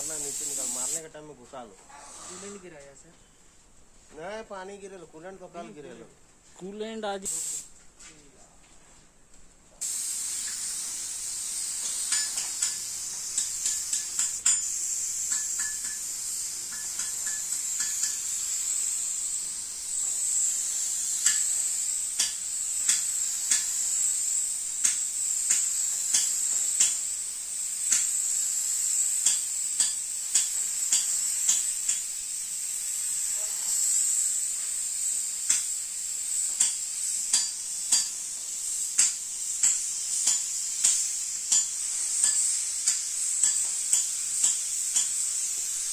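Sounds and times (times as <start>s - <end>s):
spray gun hissing: 0.0s - 1.1s, 1.9s - 2.8s, 7.2s - 7.7s, 9.8s - 45.9s.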